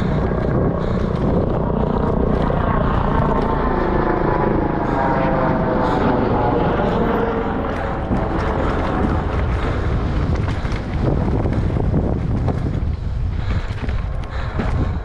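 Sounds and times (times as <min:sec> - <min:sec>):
bike rattling on rough trail: 0:00.0 - 0:15.0
wind buffeting microphone: 0:00.0 - 0:15.0.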